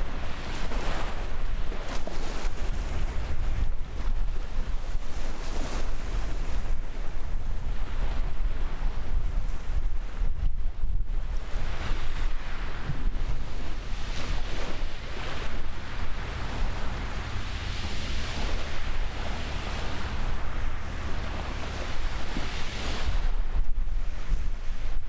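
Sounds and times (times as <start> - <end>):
rushing wind and water: 0.0 - 25.0
wind buffeting the microphone: 0.0 - 25.0.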